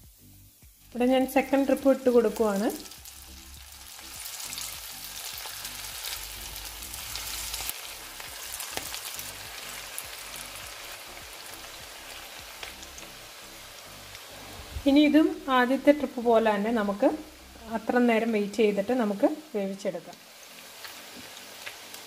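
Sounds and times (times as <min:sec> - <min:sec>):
meat deep-frying in oil: 0:00.0 - 0:15.2, 0:16.0 - 0:22.0.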